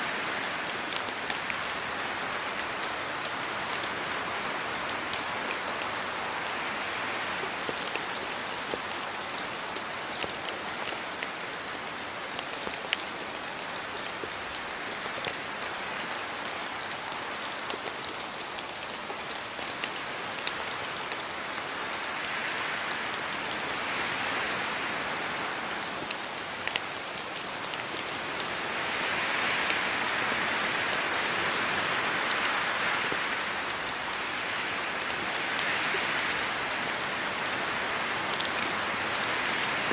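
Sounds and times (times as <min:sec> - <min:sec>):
steady rain with ticking drops: 0:00.0 - 0:39.9.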